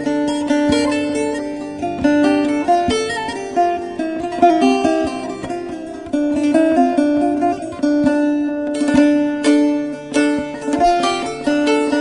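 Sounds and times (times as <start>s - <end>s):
plucked lute melody: 0.0s - 12.0s.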